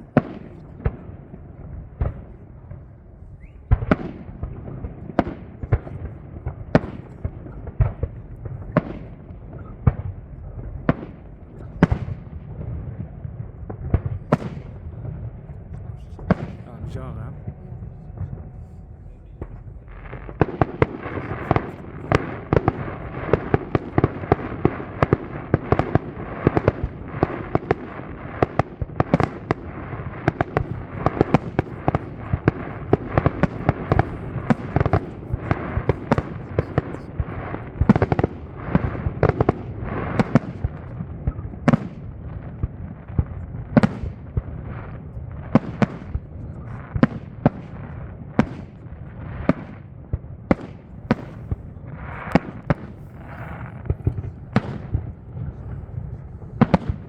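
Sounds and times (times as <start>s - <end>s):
rumble of firework reports: 0.0s - 57.0s.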